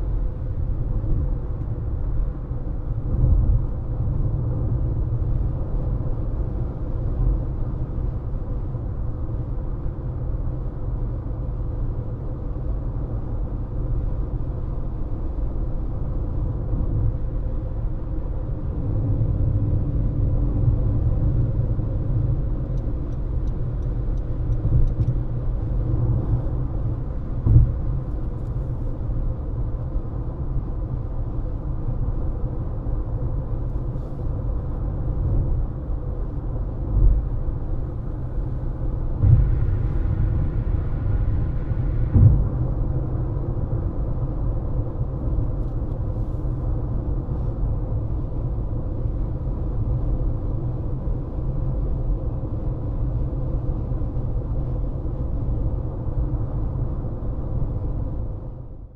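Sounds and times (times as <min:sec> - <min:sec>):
road and tyre rumble: 0:00.0 - 0:58.9.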